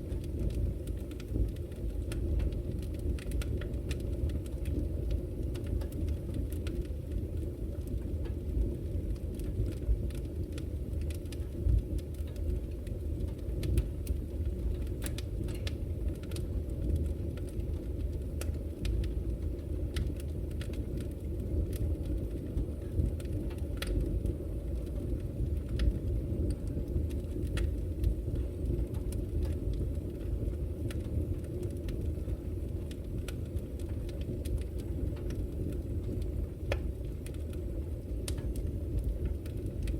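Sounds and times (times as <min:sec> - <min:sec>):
fire crackles and pops: 0:00.0 - 0:39.9
fire rumbling in fireplace: 0:00.0 - 0:39.9.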